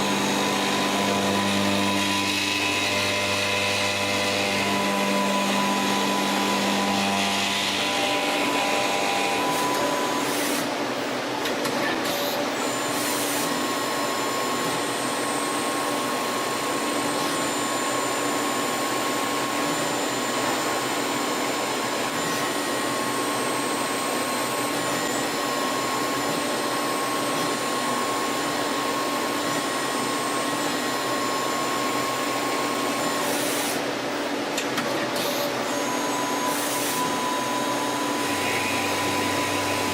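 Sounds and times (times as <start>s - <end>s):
lathe machine whirring: 0.0s - 11.0s, 12.6s - 39.9s.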